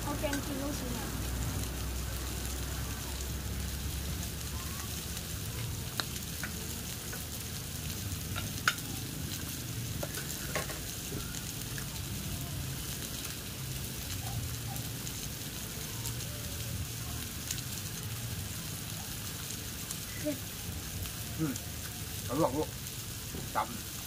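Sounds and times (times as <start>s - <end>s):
meat sizzling on a grill pan: 0.0s - 24.0s.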